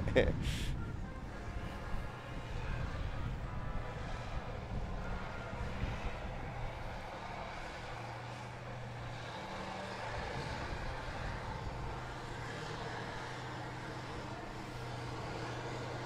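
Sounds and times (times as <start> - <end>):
tracked vehicle engines droning: 0.0 - 16.0.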